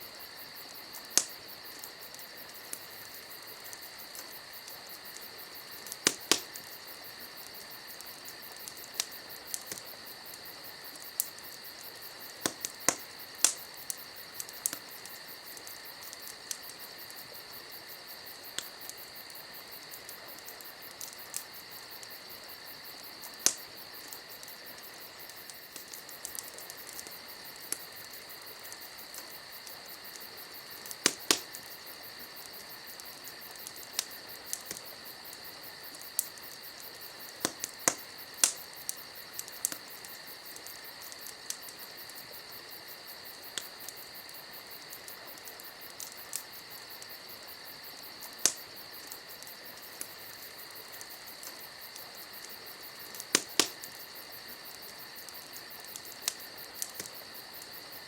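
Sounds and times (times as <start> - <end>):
crickets chirring: 0.0 - 58.0
campfire popping and crackling: 0.1 - 58.0.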